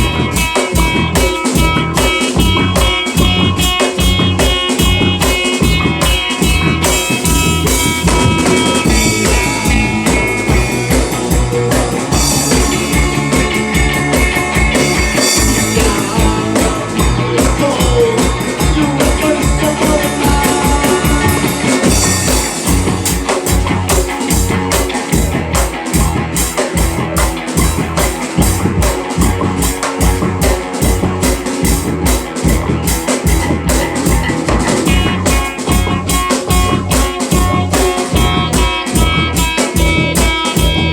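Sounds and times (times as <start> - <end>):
drum kit beat: 0.0 - 40.9
electric guitar: 0.0 - 40.9.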